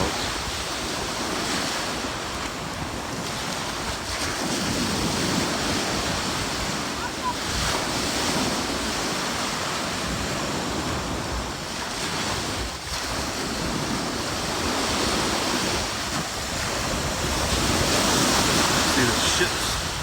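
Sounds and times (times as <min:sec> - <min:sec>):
ocean surf washing onto beach: 0:00.0 - 0:20.0
wind rumbling on microphone: 0:00.0 - 0:20.0.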